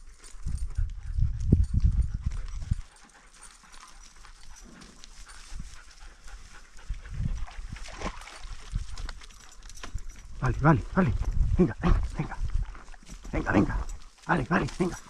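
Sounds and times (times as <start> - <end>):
dogs searching scrub: 0.0 - 15.0.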